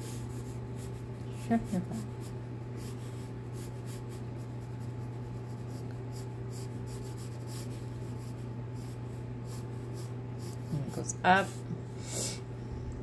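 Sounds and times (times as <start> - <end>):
pencil scratching on paper: 0.0 - 11.6
steady low hum: 0.0 - 13.0.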